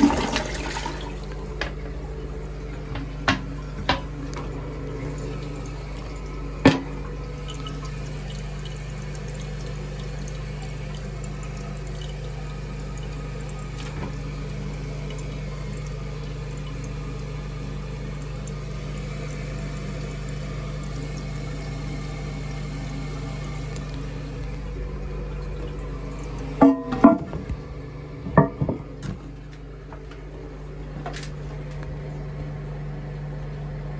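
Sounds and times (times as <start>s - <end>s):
water rushing into toilet tank: 0.0s - 33.9s.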